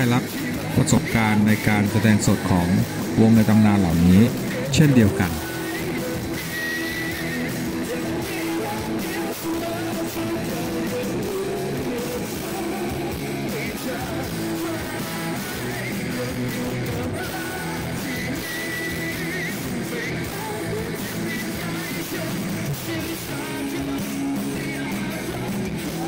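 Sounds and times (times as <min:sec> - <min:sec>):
electric guitar: 0:00.0 - 0:26.0
keyboards: 0:00.0 - 0:26.0
man singing lead vocals: 0:00.0 - 0:26.0.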